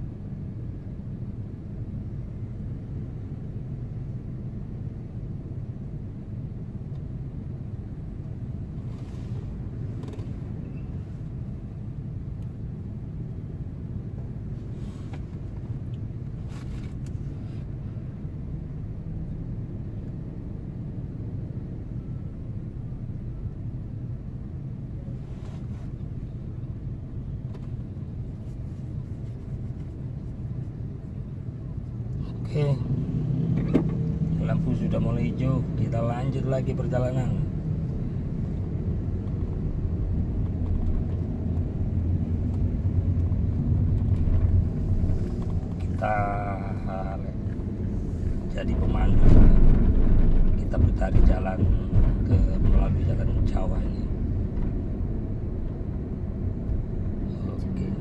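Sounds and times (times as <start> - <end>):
idling engines low rumble: 0.0 - 58.0.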